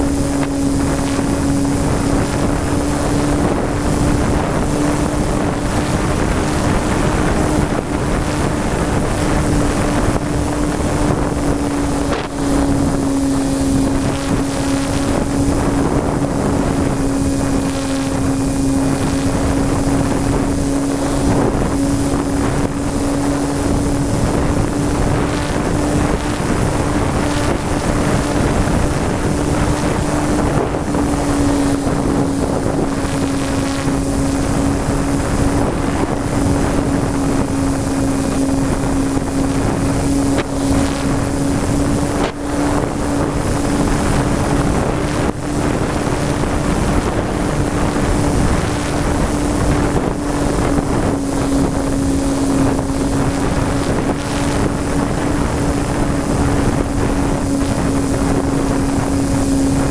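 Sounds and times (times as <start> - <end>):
model plane motor humming: 0.0 - 59.9
wind rushing over microphone: 0.0 - 59.9.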